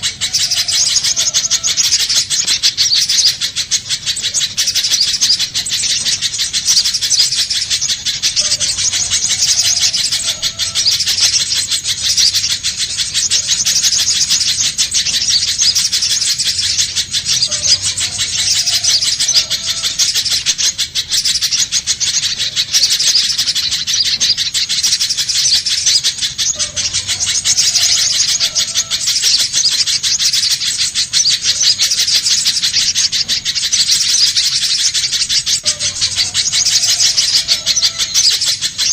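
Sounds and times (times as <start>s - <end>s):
bird high-pitched chips: 0.0s - 38.9s.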